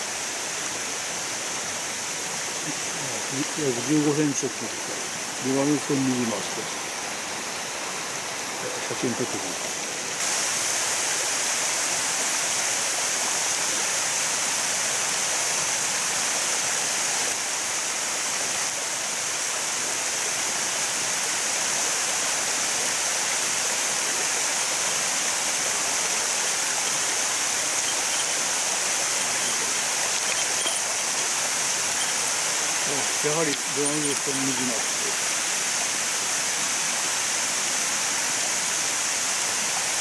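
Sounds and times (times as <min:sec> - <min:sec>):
water rushing over dam: 0:00.0 - 0:40.0.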